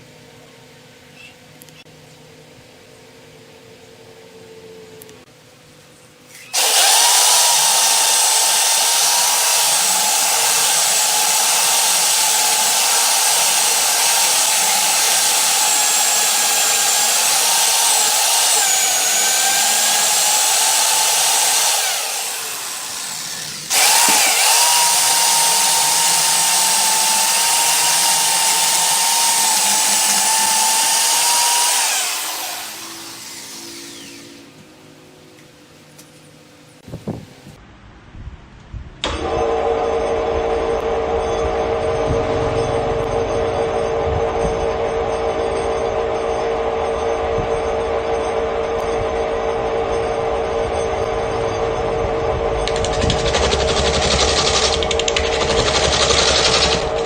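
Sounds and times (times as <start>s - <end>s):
electric power tool running: 6.3s - 34.9s, 39.0s - 57.0s.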